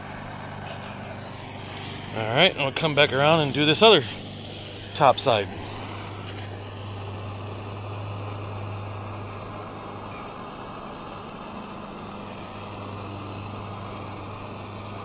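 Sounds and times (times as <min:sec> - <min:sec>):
propane torch flame rushing: 0:00.0 - 0:15.0.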